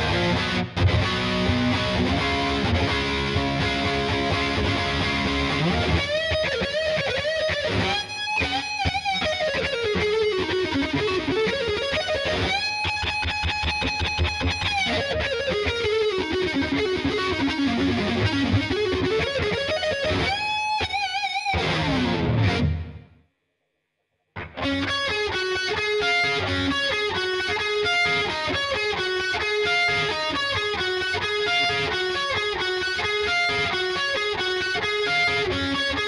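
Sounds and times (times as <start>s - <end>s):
distorted electric guitar lead: 0.0s - 23.2s, 24.4s - 36.0s.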